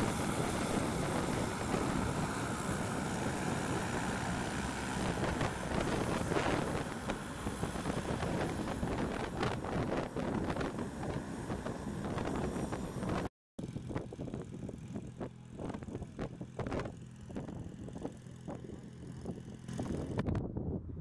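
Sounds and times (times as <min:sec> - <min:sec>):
small tractor engine running: 0:00.0 - 0:20.2
wind buffeting microphone: 0:00.0 - 0:21.0.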